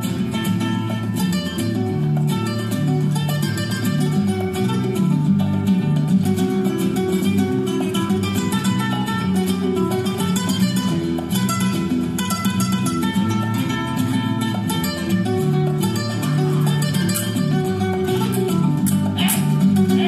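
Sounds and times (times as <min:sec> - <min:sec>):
flamenco guitar music: 0:00.0 - 0:20.0.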